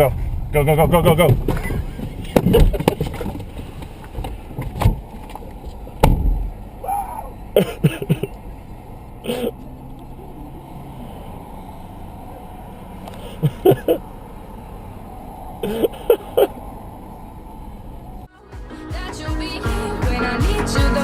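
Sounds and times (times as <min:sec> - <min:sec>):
car interior noise: 0:00.0 - 0:18.3.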